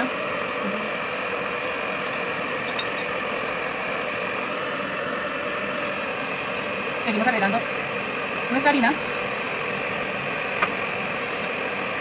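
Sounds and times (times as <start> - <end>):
stand mixer whirring: 0.0 - 12.0.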